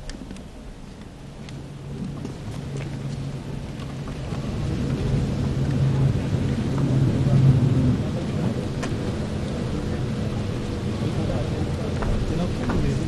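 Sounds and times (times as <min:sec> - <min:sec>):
low droning rumble: 0:00.0 - 0:13.0.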